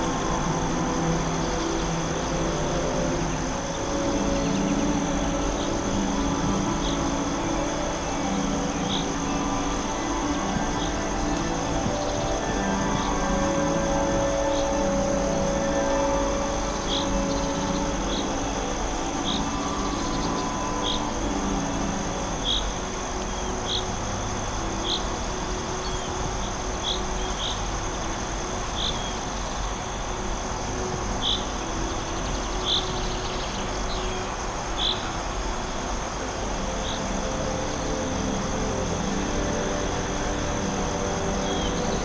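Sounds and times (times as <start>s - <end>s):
faint low drone: 0.0s - 42.0s
high insect trill: 0.0s - 42.0s.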